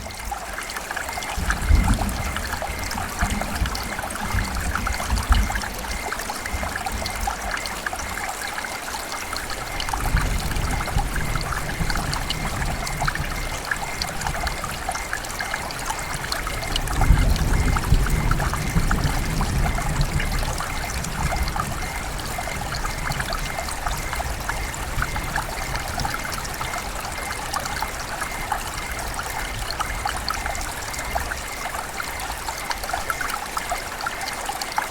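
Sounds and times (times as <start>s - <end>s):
heavy rain falling: 0.0s - 34.9s
distant thunder rumbling: 1.3s - 8.3s, 9.5s - 31.3s.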